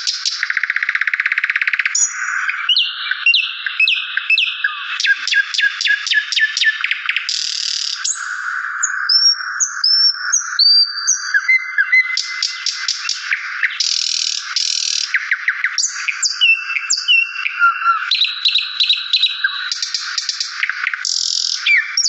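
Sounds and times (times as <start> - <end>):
songbirds singing and chirping: 0.0 - 22.0.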